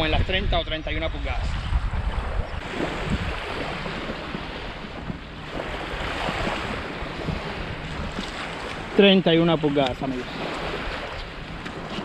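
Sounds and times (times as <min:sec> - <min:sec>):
wind buffeting microphone: 0:00.0 - 0:12.0
small waves washing onto sand: 0:01.6 - 0:12.0.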